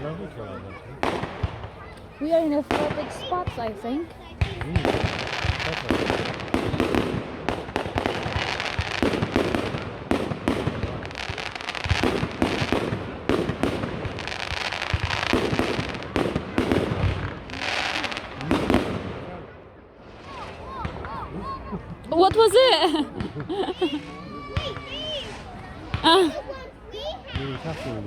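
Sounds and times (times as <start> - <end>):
firework crackling: 1.0 - 19.4, 20.0 - 26.5
firework bangs: 1.0 - 26.4.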